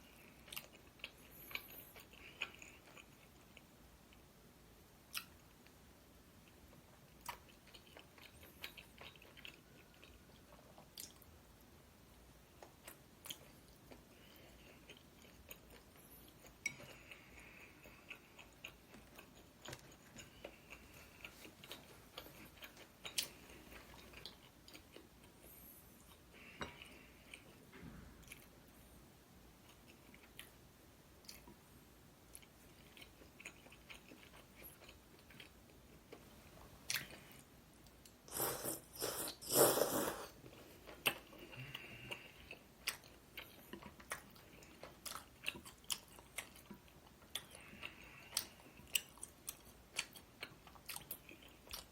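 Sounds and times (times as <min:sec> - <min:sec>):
person chewing food: 0:00.0 - 0:04.3, 0:06.4 - 0:11.4, 0:12.5 - 0:28.8, 0:29.6 - 0:30.6, 0:31.2 - 0:51.9.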